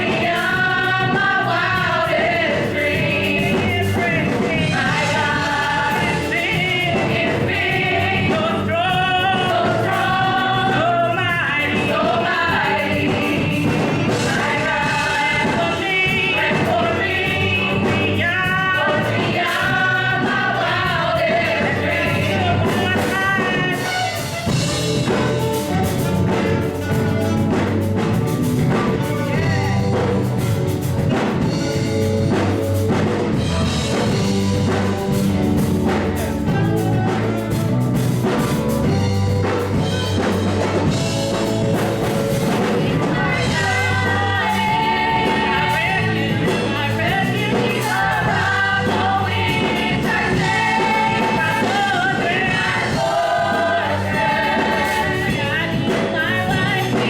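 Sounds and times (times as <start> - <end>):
voices singing: 0.0 - 32.1, 32.8 - 57.0
gospel band with drum kit: 0.0 - 57.0.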